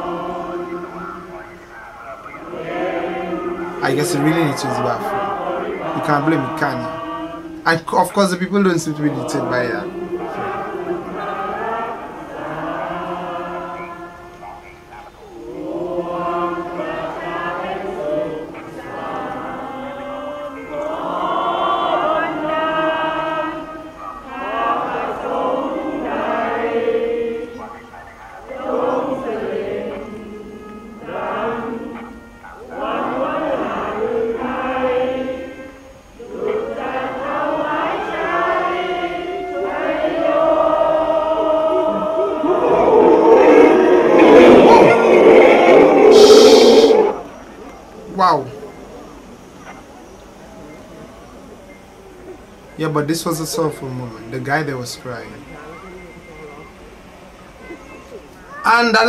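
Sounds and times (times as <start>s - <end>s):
choir singing long notes: 0.0s - 59.0s.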